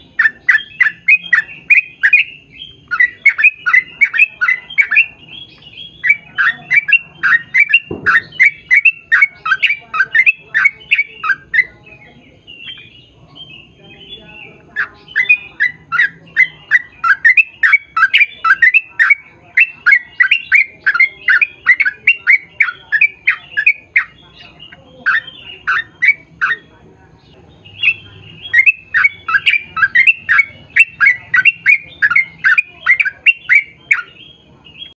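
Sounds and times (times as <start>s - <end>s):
bulbul chattering song: 0.0s - 35.0s.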